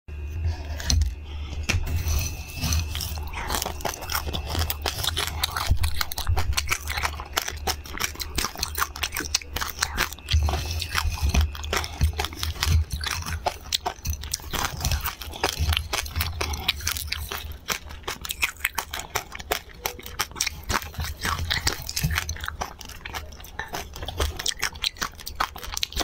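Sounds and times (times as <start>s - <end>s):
crunching and chewing: 0.1s - 26.0s.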